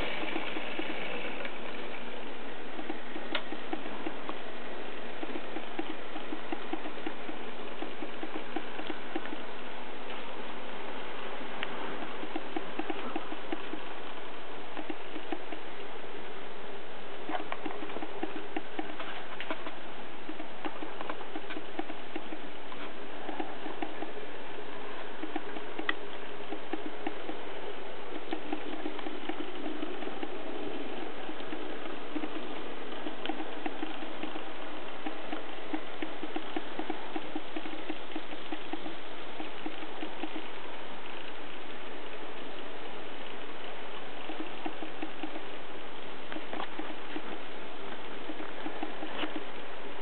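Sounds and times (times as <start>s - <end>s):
wheels clicking on rails: 0.0s - 16.2s, 17.2s - 50.0s.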